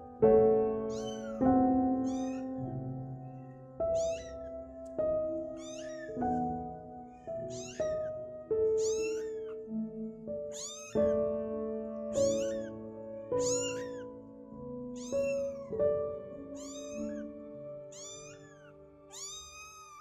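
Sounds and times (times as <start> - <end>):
soft background music: 0.0 - 20.0
kitten meowing: 0.8 - 9.8, 10.4 - 11.3, 12.1 - 20.0.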